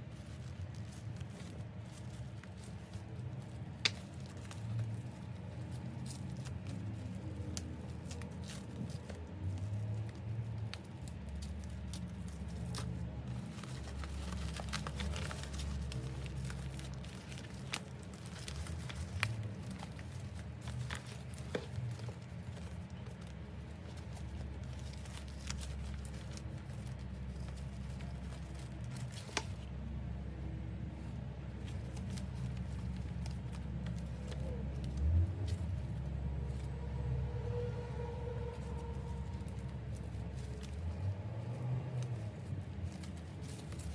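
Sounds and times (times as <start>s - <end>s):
low steady hum: 0.0s - 43.9s
packaging crinkling and rustling: 0.0s - 43.9s.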